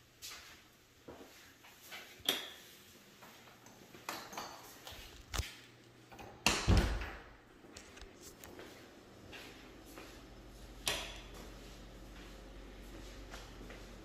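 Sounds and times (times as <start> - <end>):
footsteps: 0.1 - 5.6, 7.6 - 14.0.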